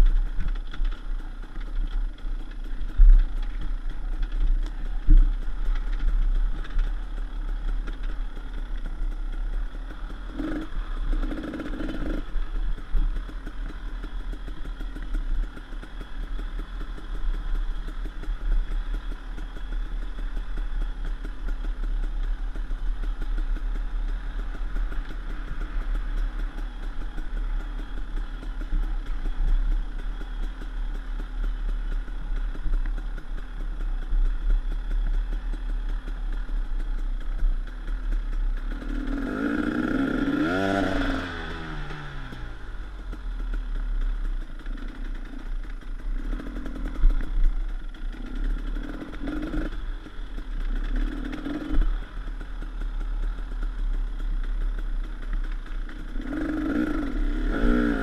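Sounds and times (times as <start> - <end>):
motorcycle clatter: 0.0 - 58.0
two-stroke motorcycle engine revving: 0.0 - 58.0.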